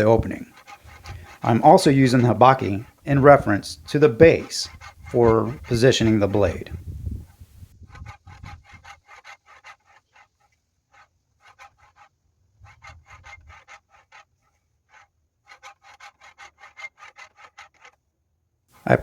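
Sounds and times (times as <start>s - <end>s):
sharpener rubbing on blade edge: 0.0s - 14.3s, 14.9s - 18.0s.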